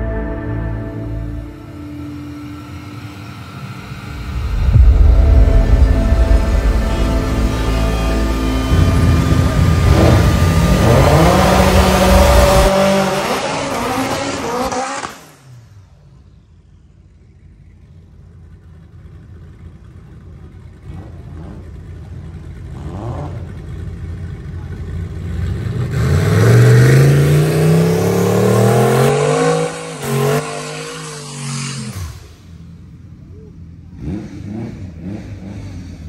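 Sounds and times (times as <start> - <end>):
race car engines at full throttle: 0.9 - 36.0.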